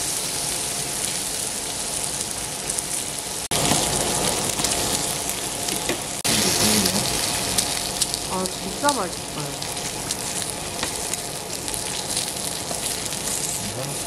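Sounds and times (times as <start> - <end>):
meat sizzling on a grill: 0.0 - 14.0.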